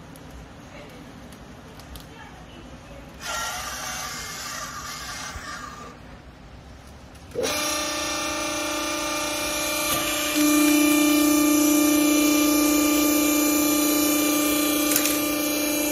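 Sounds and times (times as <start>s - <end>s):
electric motor and pump humming: 3.0s - 15.9s.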